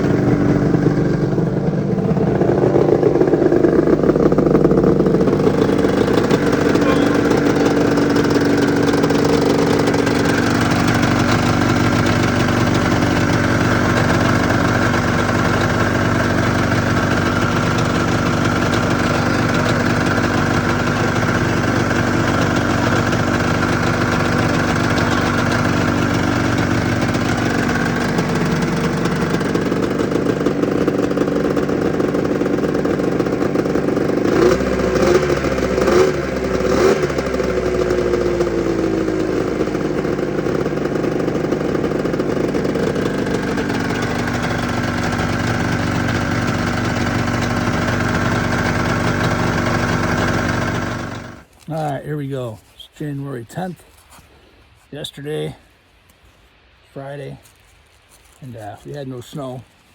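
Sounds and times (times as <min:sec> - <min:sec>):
two-stroke engine idling: 0:00.0 - 0:51.5.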